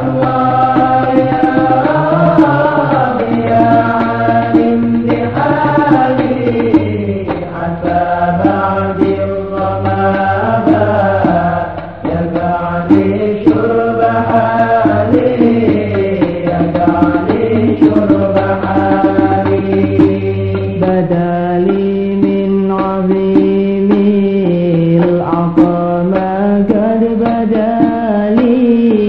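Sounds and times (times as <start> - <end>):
hand percussion strokes: 0.0 - 29.0
person singing devotional song: 0.0 - 29.0.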